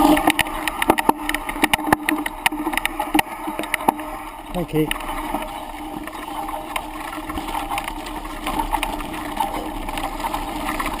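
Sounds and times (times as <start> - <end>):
bicycle tyre noise: 0.0 - 11.0
bike rattling over rough ground: 0.0 - 11.0.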